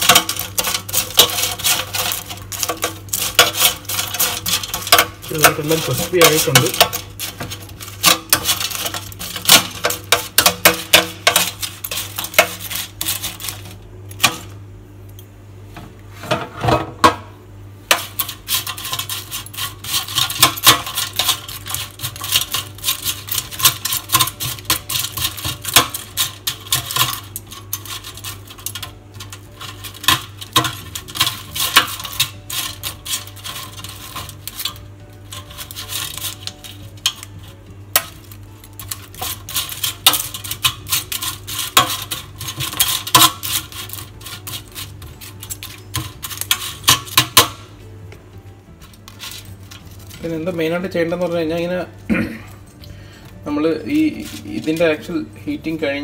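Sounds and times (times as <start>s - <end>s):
chips rattling in air fryer basket: 0.0s - 14.6s, 17.8s - 47.8s, 48.7s - 56.0s.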